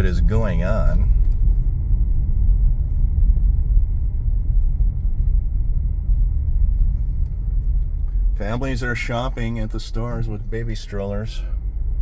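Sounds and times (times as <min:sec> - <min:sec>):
car driving interior rumble: 0:00.0 - 0:12.0.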